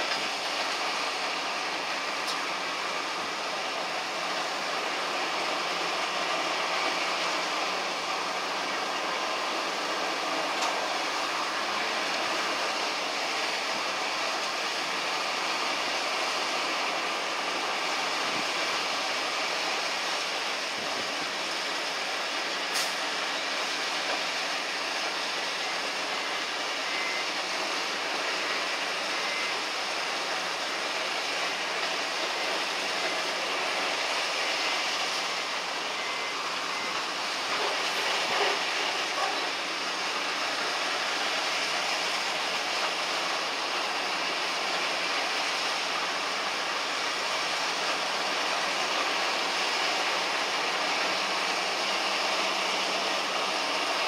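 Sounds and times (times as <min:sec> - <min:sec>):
ice-loading machine running: 0:00.0 - 0:54.0.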